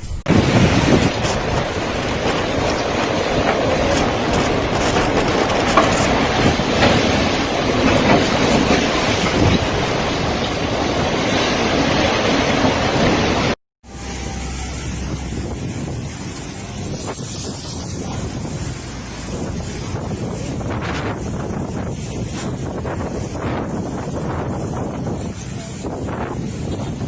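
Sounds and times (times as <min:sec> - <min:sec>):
storm wind blowing hard: 0:00.0 - 0:13.6, 0:14.2 - 0:27.0.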